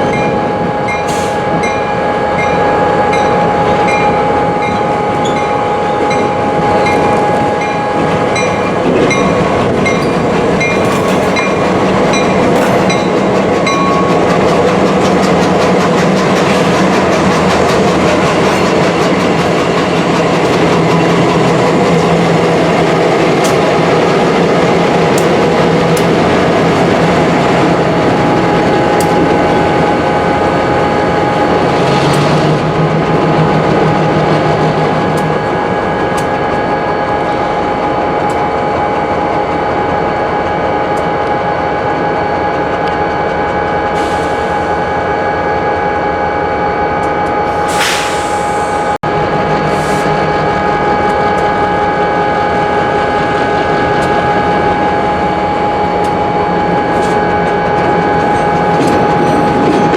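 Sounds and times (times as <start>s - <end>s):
freight train rolling: 0.0s - 59.9s.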